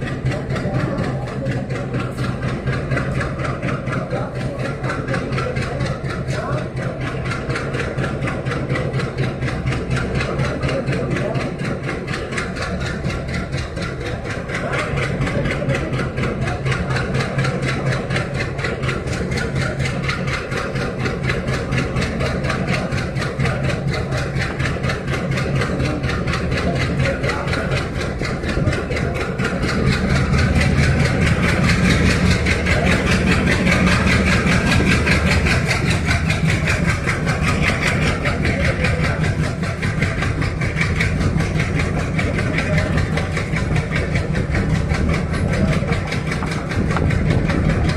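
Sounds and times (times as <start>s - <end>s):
diesel train engine running: 0.0s - 47.9s.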